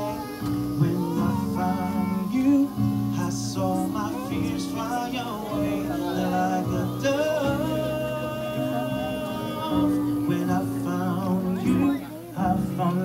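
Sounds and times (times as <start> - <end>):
musical accompaniment: 0.0 - 13.0
person singing long notes: 0.0 - 13.0.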